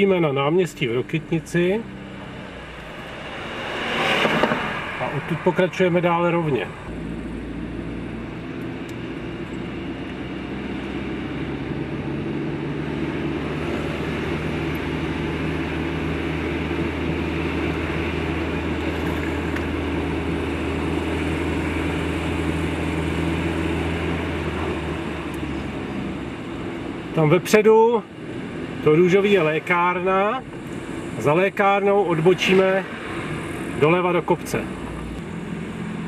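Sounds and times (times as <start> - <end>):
car engine and tyre drone: 0.0 - 36.0.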